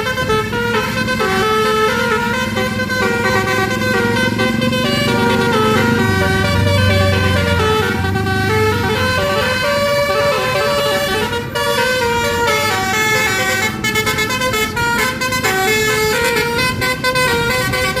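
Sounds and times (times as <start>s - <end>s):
multi-tone bus horn tune: 0.0s - 18.0s.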